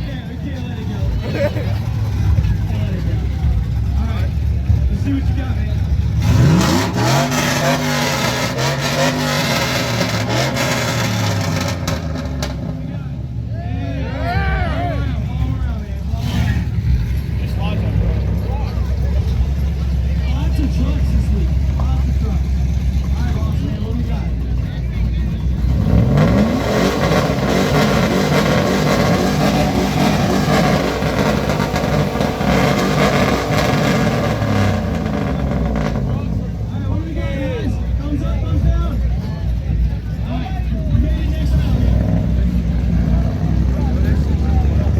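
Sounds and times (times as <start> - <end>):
car engine revving: 0.0 - 13.5, 14.8 - 44.9.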